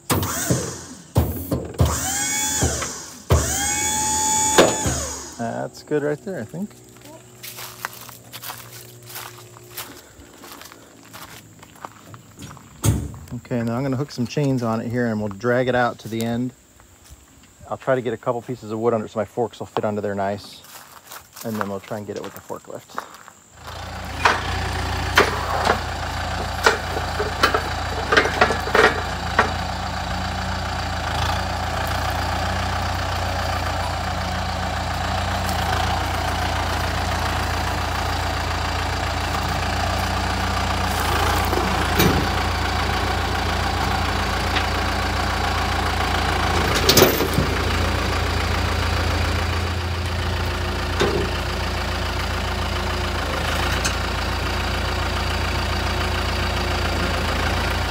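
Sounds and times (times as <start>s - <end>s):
tractor diesel engine running: 0.0s - 16.6s, 17.6s - 57.9s.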